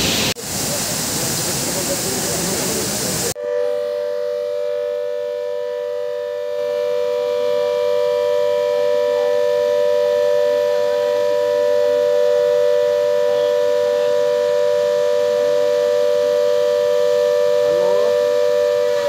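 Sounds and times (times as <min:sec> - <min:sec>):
warning siren steady tone: 0:03.2 - 0:19.0.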